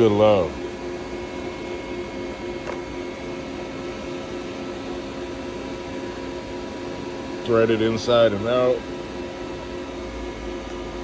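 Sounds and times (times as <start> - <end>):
high-pitched machine whine: 0.0 - 11.0
shop machinery humming: 0.0 - 11.0.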